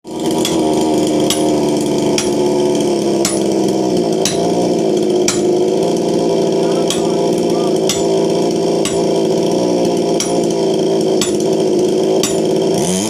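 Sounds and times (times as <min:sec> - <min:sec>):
steady machine drone: 0:00.1 - 0:12.9
tool striking wood: 0:00.1 - 0:13.0.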